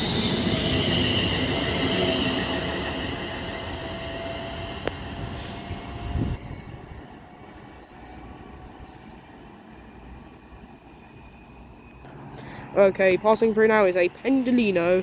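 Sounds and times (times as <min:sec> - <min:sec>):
electric train running: 0:00.0 - 0:15.0.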